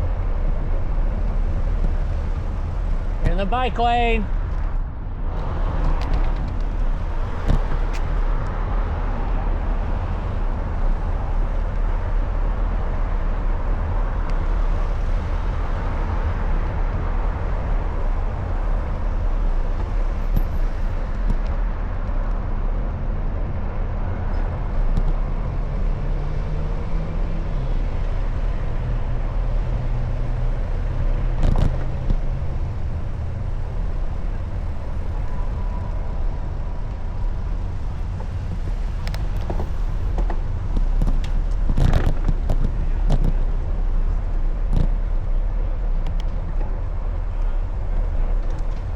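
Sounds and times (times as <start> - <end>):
motor traffic passing: 0.0 - 48.9
vehicle engine hum: 0.0 - 48.9
wind and road noise: 0.0 - 48.9.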